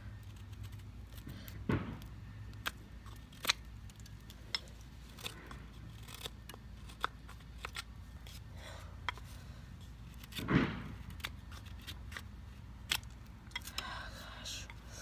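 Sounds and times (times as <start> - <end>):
knife carving wood: 0.0 - 15.0.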